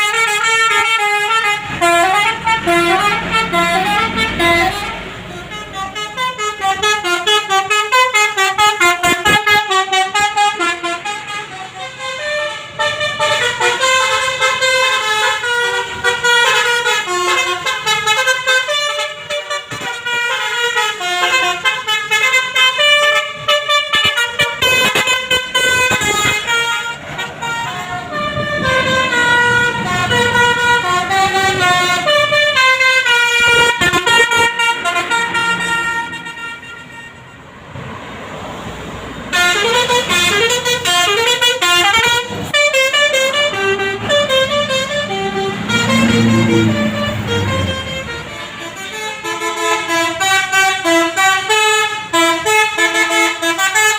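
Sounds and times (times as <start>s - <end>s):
musical bus horn melody: 0.0s - 37.6s, 39.2s - 53.9s.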